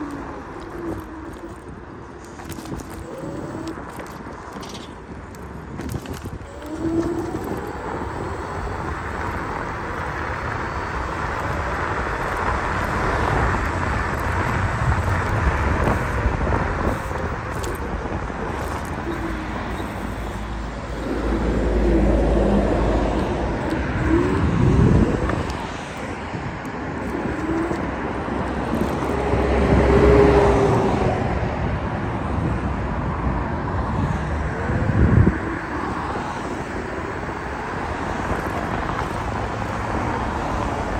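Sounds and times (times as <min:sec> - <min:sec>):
vehicles passing by: 0:00.0 - 0:40.9
wind and road noise: 0:00.0 - 0:40.9.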